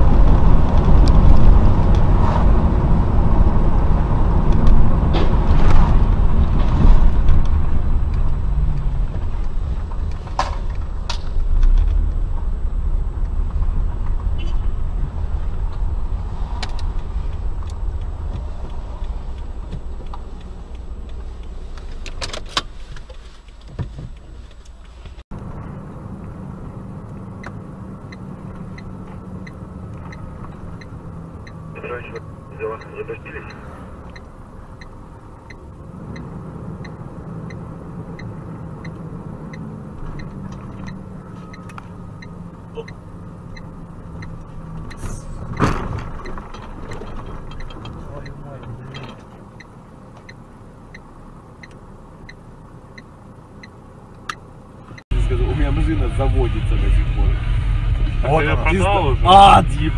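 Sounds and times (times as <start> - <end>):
car engine and tyre rumble: 0.0 - 59.9
steady car interior hum: 0.0 - 59.9.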